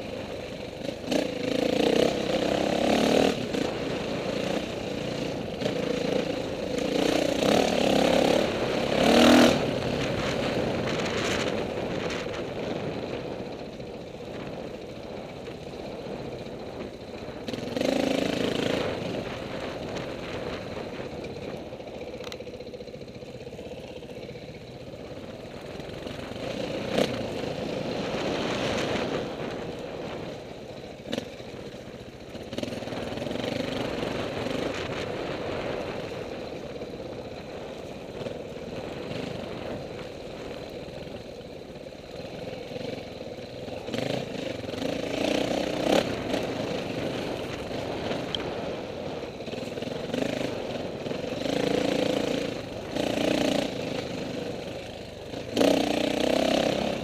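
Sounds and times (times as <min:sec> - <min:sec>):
dirt bike engine revving: 0:00.0 - 0:13.5, 0:15.8 - 0:30.4, 0:31.0 - 0:57.0.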